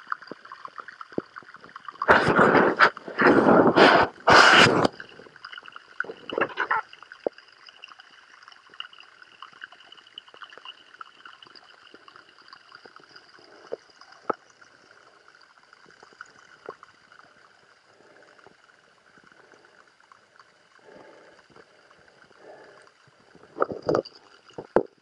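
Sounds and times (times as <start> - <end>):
underwater rush of water: 0.0 - 7.5, 9.6 - 25.0
faint underwater crackling: 0.0 - 25.0.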